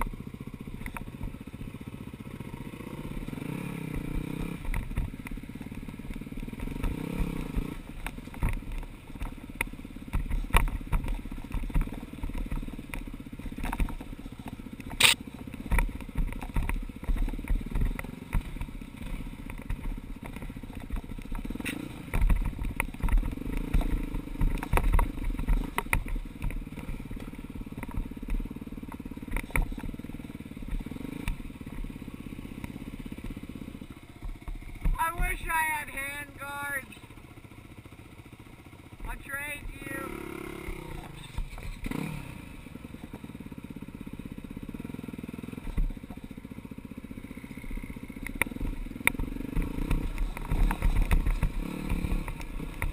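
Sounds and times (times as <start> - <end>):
dirt bike engine: 0.0 - 52.9.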